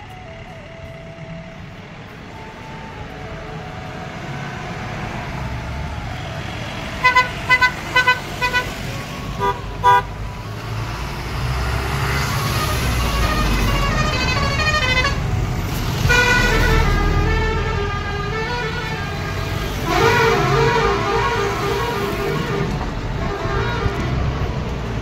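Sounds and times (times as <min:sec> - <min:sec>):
truck engines rumbling: 0:00.0 - 0:25.0.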